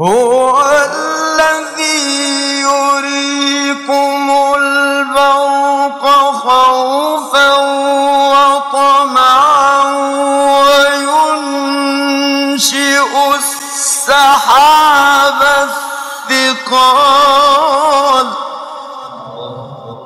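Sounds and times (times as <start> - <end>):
man chanting recitation: 0.0 - 20.0.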